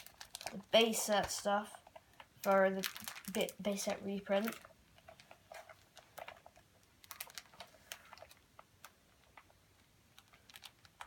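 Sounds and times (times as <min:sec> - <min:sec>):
plastic binder pages crinkling: 0:00.0 - 0:11.0.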